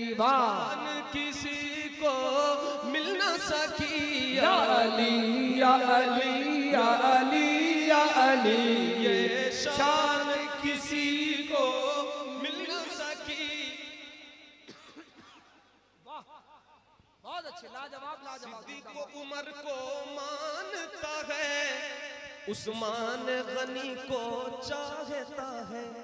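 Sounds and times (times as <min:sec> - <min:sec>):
man singing ornamented vocal line: 0:00.0 - 0:14.6, 0:18.4 - 0:26.0.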